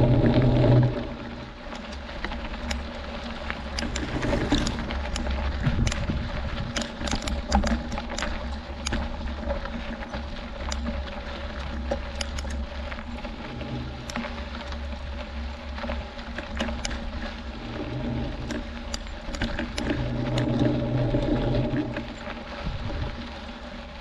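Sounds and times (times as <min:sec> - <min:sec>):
bike rattling: 0:00.0 - 0:24.0
bike tyres crunching on gravel: 0:00.0 - 0:24.0
steady hum: 0:00.0 - 0:24.0
wind rumble on microphone: 0:00.0 - 0:24.0.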